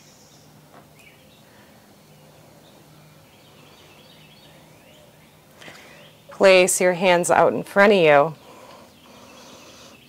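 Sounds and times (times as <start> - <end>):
background hiss: 0.0 - 10.0
low steady hum: 0.0 - 10.0.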